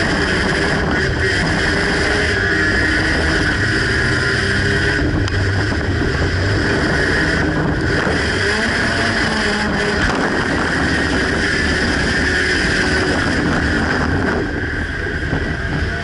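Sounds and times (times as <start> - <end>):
car engine running loud: 0.0 - 16.0.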